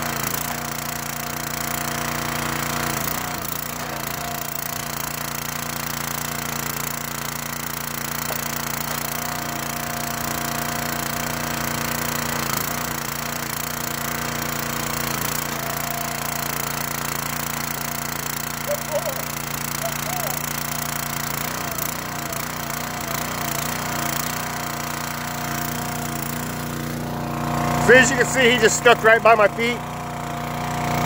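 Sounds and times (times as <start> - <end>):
small gas engine running: 0.0 - 31.0.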